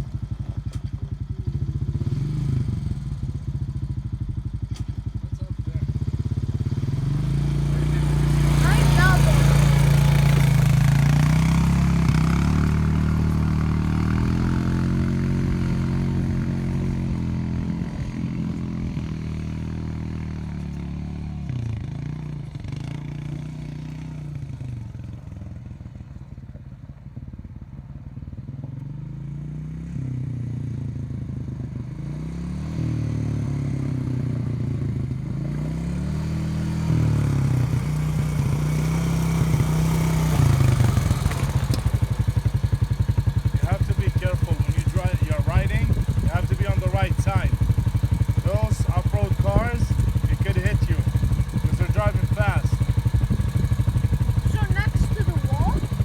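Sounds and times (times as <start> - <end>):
off-road vehicle engine revving: 1.6 - 3.3, 4.7 - 25.1, 31.0 - 56.0.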